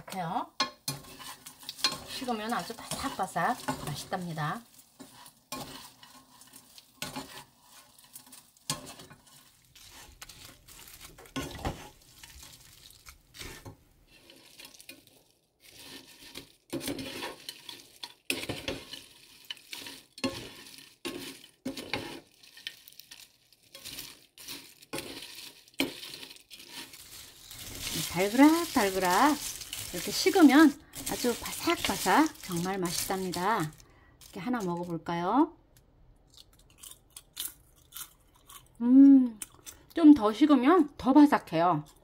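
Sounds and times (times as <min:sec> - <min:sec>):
dried peppers rattling in a pan: 0:00.0 - 0:35.2.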